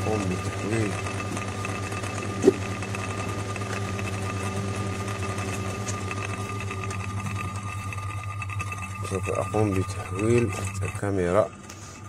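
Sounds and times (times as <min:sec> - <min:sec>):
cooling fan humming: 0:00.0 - 0:12.0.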